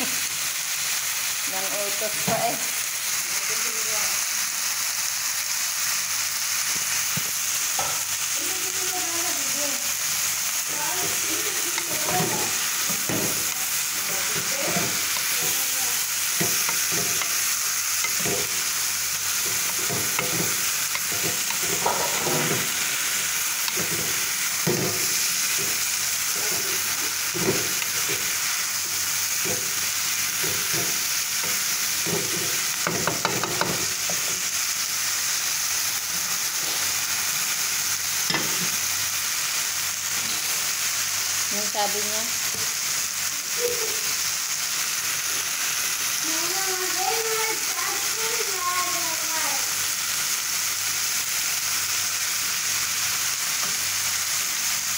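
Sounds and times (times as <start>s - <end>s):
vegetables sizzling in a pan: 0.0s - 54.9s.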